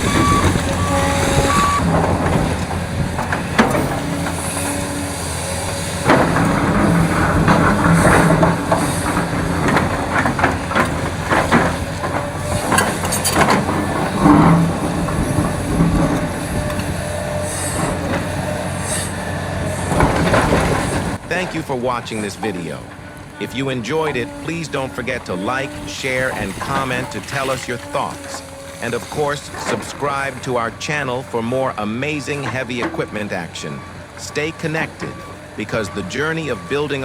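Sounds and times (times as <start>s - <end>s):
bucket scraping on rock and steel: 0.0s - 37.0s
heavy diesel machinery running: 0.0s - 37.0s
truck reversing beeper: 0.0s - 37.0s.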